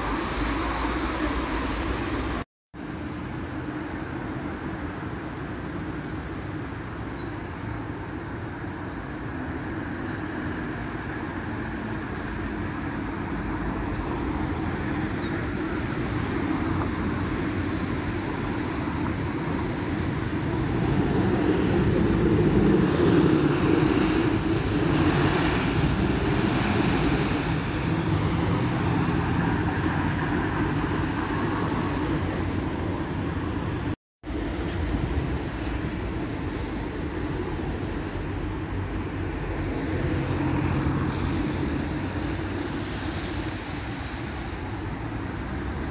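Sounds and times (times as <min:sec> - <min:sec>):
street traffic: 0:00.0 - 0:45.9.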